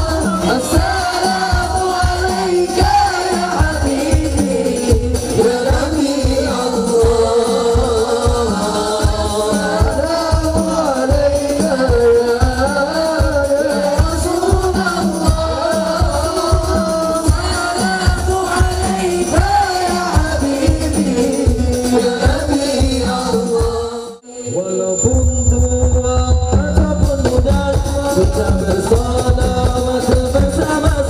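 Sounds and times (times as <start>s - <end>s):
frame drum beat: 0.0s - 24.0s, 26.2s - 31.0s
man singing into a microphone: 0.0s - 31.0s.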